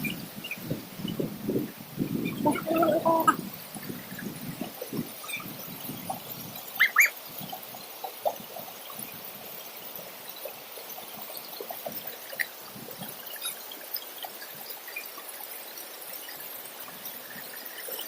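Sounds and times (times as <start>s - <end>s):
river water trickling and splashing: 0.0s - 18.0s
water drips: 0.0s - 18.0s.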